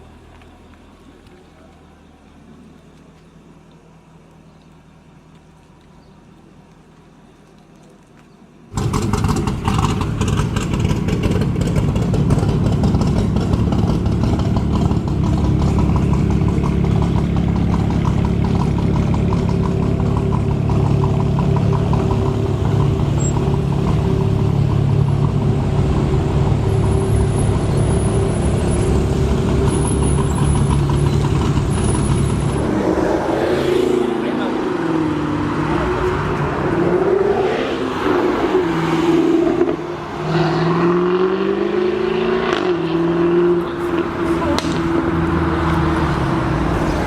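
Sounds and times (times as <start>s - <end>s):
car engine idling: 0.0s - 7.5s, 8.5s - 37.0s, 43.5s - 47.0s
car engine starting: 8.6s - 47.0s.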